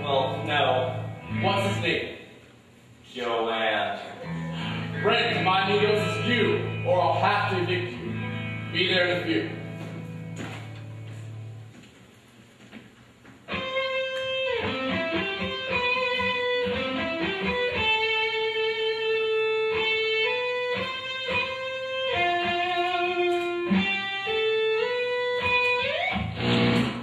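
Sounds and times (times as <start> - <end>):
electric guitar melody: 0.0 - 2.0, 4.2 - 11.9, 13.5 - 27.0.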